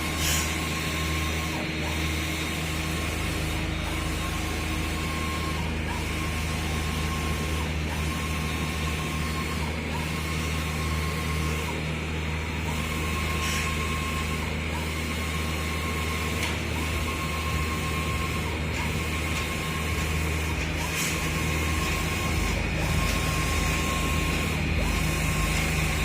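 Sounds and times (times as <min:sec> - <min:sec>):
printer machine hum: 0:00.0 - 0:26.0
printer whine: 0:00.0 - 0:26.0.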